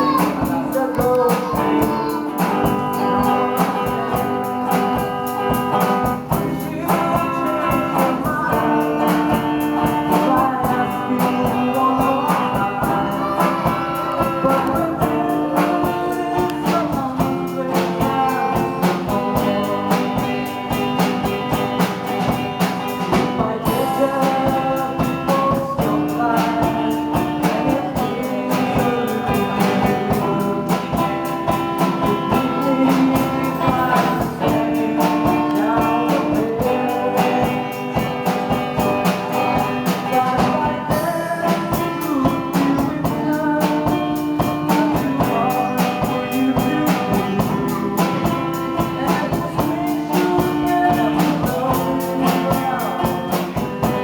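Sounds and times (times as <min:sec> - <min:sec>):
acoustic guitar strumming: 0:00.0 - 0:54.0
person singing: 0:00.0 - 0:54.0.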